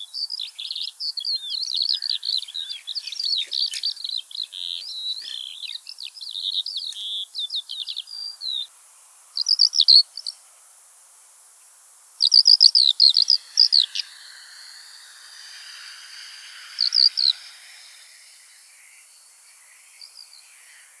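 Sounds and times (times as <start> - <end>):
skylark chirping: 0.0 - 8.7, 9.4 - 10.4, 12.2 - 20.9
faint steady background: 0.0 - 21.0.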